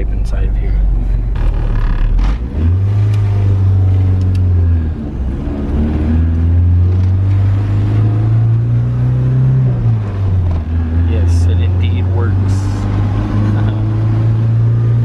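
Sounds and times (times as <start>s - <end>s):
van engine accelerating: 0.0s - 15.0s.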